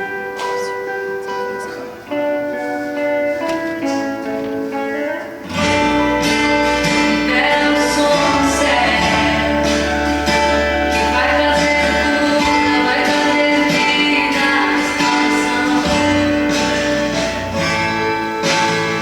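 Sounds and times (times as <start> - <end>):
bass and full band: 0.0 - 19.0
worship song with guitar: 0.0 - 19.0.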